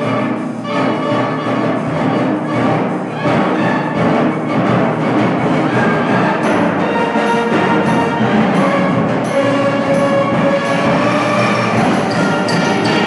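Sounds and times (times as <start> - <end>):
concert band playing: 0.0 - 13.0
percussion strokes: 0.0 - 13.0.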